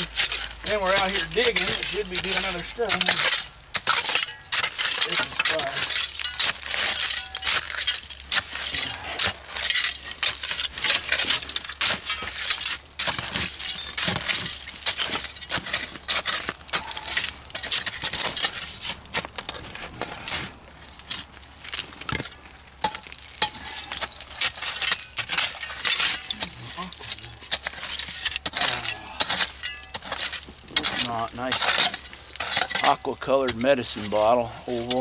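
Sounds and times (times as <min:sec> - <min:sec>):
glass clinking and metal rattling: 0:00.0 - 0:18.8, 0:21.7 - 0:35.0
shovel digging and scraping: 0:00.0 - 0:35.0.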